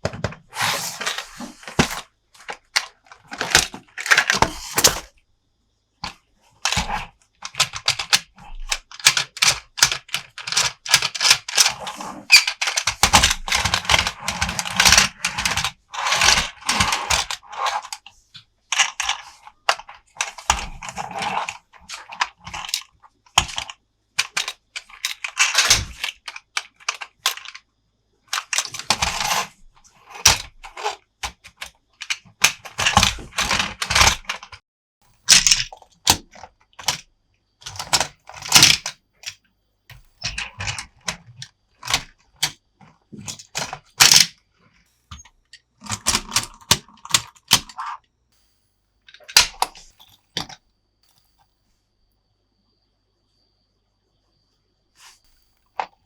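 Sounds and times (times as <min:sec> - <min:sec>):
plastic toy parts clicking and rattling: 0:00.0 - 0:05.2, 0:06.0 - 0:27.7, 0:28.3 - 0:34.6, 0:35.2 - 0:44.4, 0:45.1 - 0:48.1, 0:49.1 - 0:51.4.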